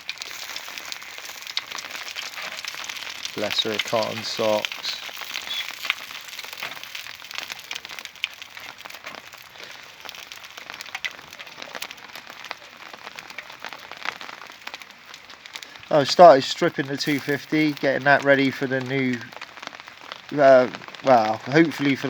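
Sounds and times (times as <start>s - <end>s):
rain drops tapping: 0.0s - 22.0s.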